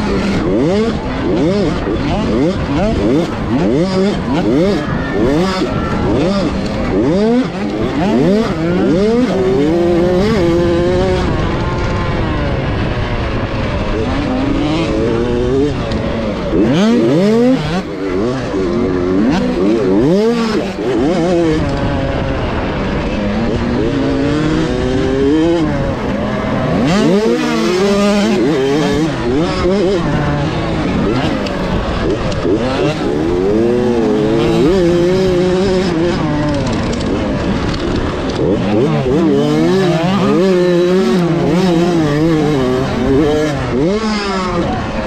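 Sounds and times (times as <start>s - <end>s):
motorbike engine revving: 0.0s - 45.0s
second motorbike engine: 0.0s - 45.0s.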